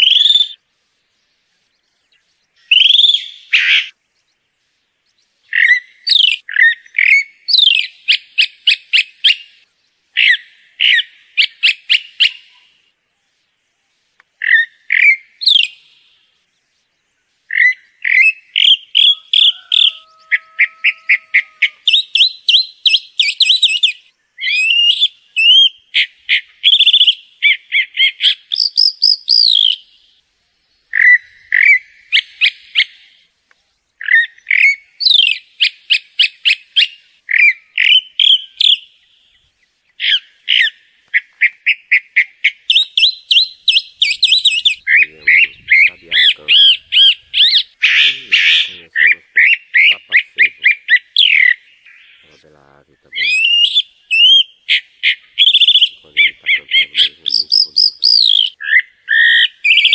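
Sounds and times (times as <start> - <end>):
mockingbird singing: 0.0 - 0.6, 1.2 - 4.4, 5.0 - 13.4, 14.4 - 33.3, 33.9 - 59.9.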